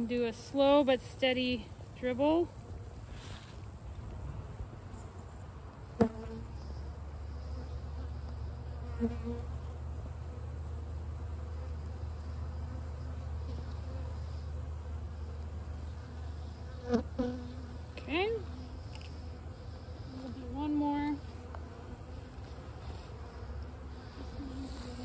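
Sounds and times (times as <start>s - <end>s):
bees humming: 0.0s - 25.0s.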